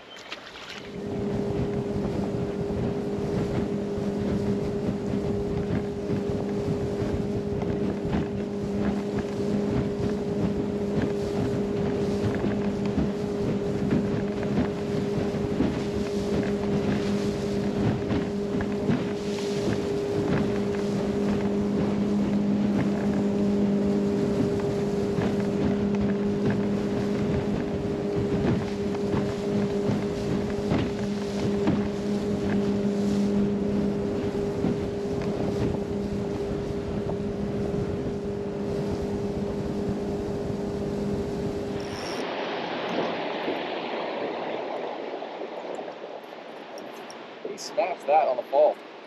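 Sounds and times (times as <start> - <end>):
outboard motor droning: 0.0 - 49.0
rushing water: 0.0 - 49.0
wind noise: 0.5 - 47.3.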